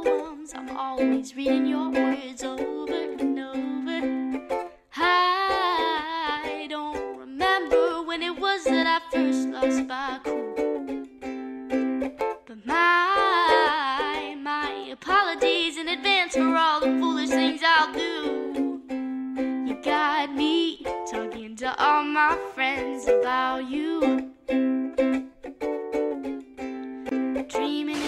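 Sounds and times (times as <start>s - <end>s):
person singing: 0.0s - 25.3s, 26.6s - 28.0s
song with plucked strings: 0.0s - 28.0s.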